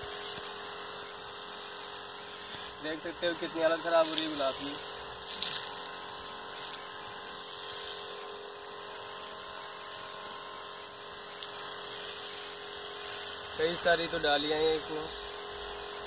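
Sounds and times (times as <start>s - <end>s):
light hiss: 0.0s - 16.0s
small motor humming: 0.0s - 16.0s.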